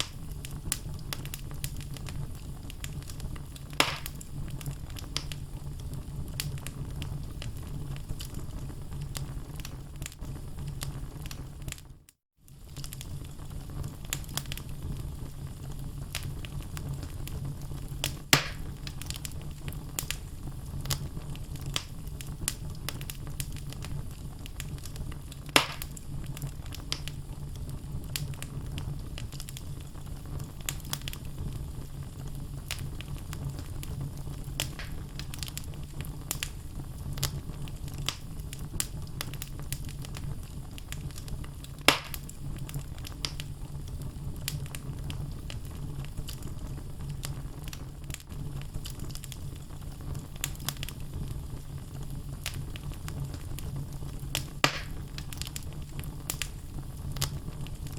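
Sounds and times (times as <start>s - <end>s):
fire crackling and popping: 0.0s - 57.9s
wood fire rumbling: 0.0s - 57.9s.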